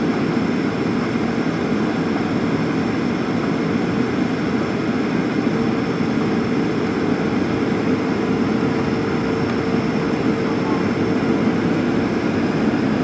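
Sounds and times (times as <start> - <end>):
airplane cabin engine rush: 0.0 - 13.0
steady low hum: 0.0 - 13.0.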